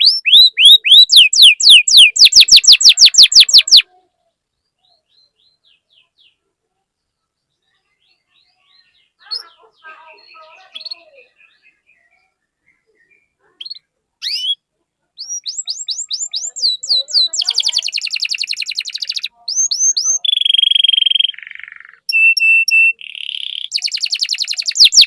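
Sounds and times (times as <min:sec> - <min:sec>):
canary singing: 0:00.0 - 0:04.0, 0:04.8 - 0:06.5, 0:07.7 - 0:25.0.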